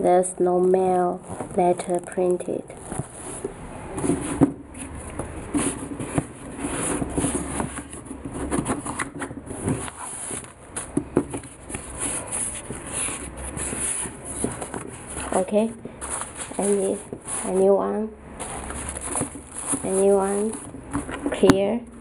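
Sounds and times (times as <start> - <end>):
sneakers rubbing and rustling: 2.7 - 21.3.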